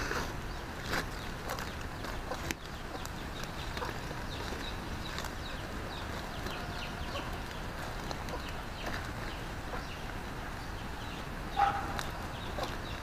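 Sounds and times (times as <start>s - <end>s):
leaf strips rustling and clicking: 0.0s - 11.0s, 11.6s - 13.0s
outdoor background hiss: 0.0s - 13.0s.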